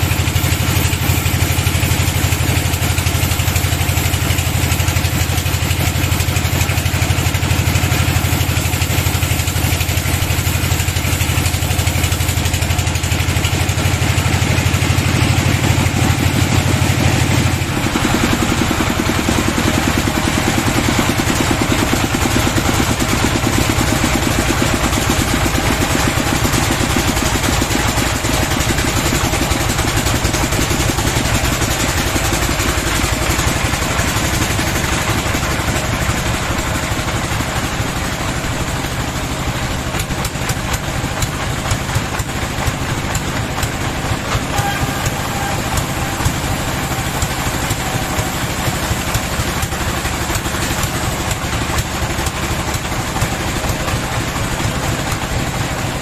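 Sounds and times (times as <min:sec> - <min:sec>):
bandsaw machinery running: 0:00.0 - 0:56.0.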